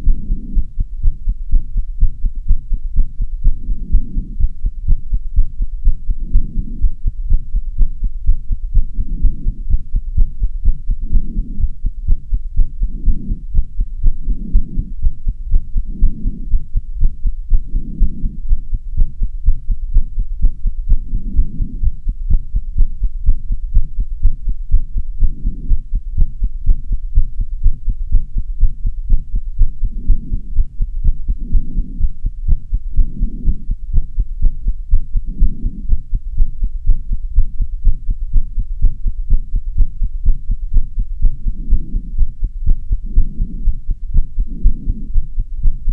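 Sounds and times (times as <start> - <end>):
heart beating fast: 0.0 - 45.9
steady low hum: 0.0 - 45.9.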